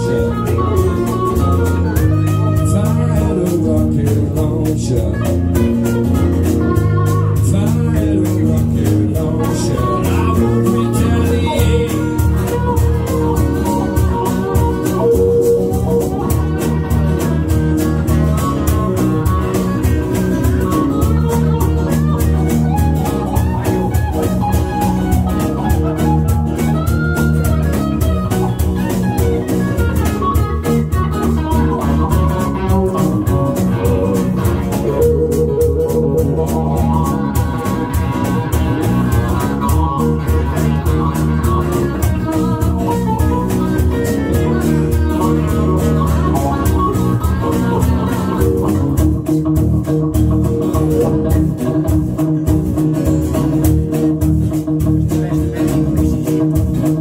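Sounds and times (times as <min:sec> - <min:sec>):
live blues-rock band: 0:00.0 - 0:57.0.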